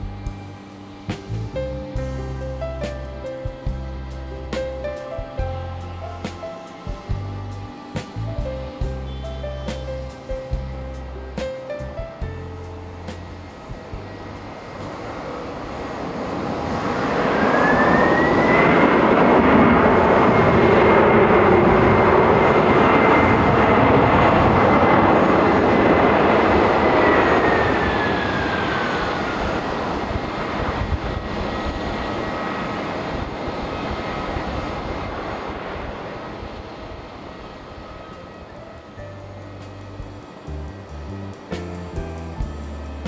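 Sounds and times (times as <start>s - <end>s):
jet engines spooling up and down: 0.0s - 43.0s.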